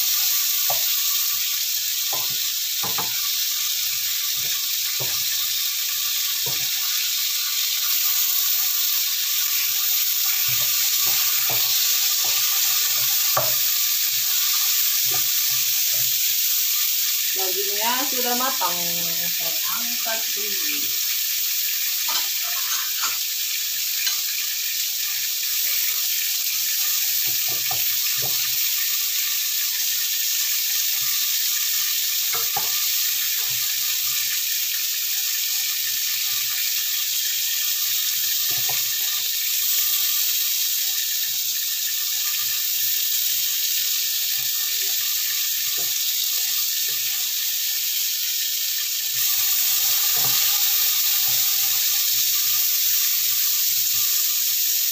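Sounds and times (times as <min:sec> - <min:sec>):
food sizzling in oil: 0:00.0 - 0:54.9.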